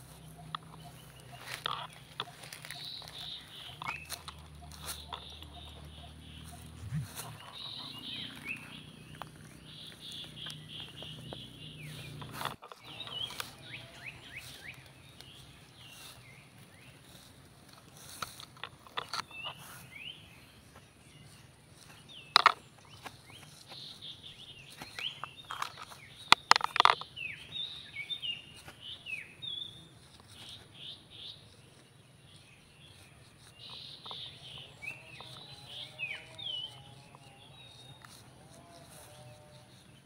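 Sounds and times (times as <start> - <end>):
birds chirping: 0.0 - 40.0
stick poking through dry grass: 0.0 - 40.0.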